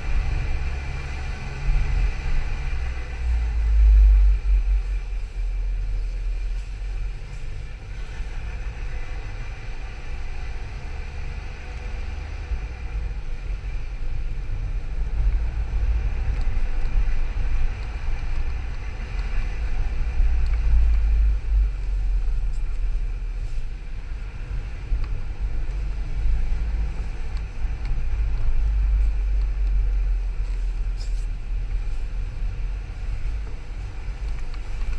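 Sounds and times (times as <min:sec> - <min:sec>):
car engine low rumble: 0:00.0 - 0:34.9
faint engine whine: 0:00.0 - 0:34.9.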